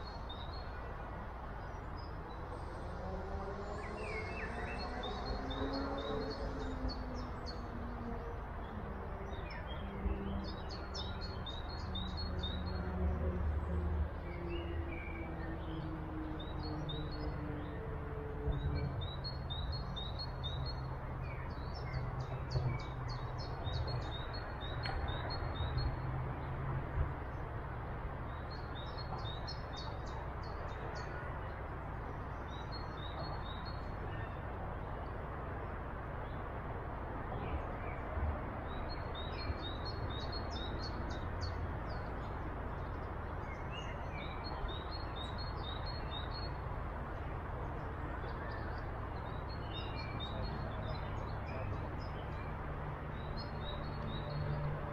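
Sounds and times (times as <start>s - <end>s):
songbirds singing: 0.0s - 36.5s, 37.3s - 54.9s.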